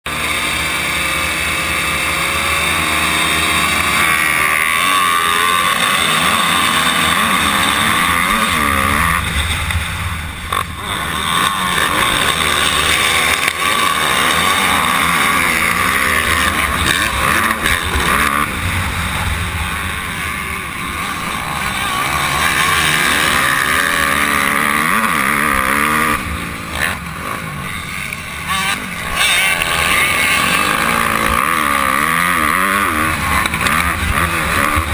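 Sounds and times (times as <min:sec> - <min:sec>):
motocross engine revving: 0:00.1 - 0:34.9.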